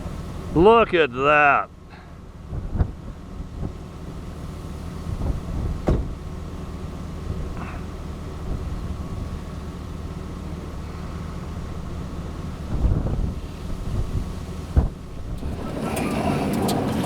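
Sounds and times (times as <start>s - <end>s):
van engine rumble from inside: 0.0s - 17.0s.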